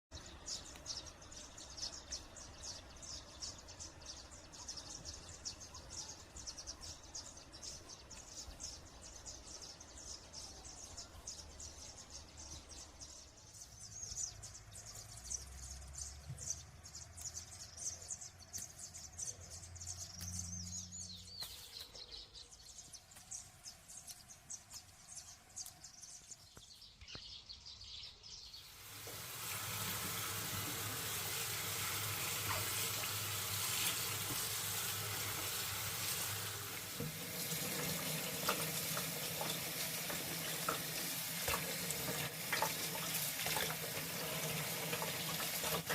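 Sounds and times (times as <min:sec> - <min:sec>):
small birds chirping: 0:00.1 - 0:45.9.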